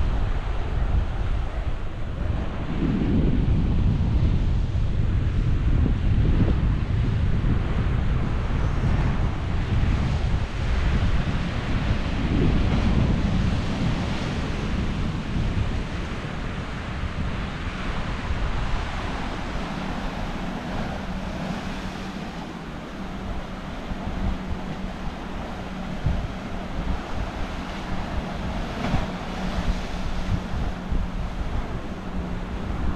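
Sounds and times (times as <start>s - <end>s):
ocean surf: 0.0s - 32.9s
wind buffeting microphone: 0.0s - 32.9s.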